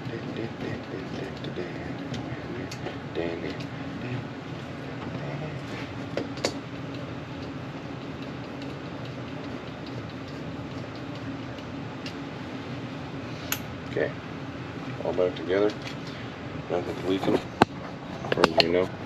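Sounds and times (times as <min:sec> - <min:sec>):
air handler blower humming: 0:00.0 - 0:19.0.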